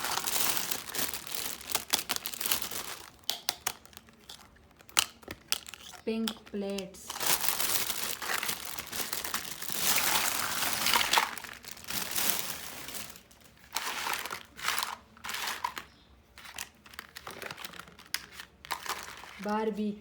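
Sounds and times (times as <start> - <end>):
packaging crinkling: 0.0 - 19.5.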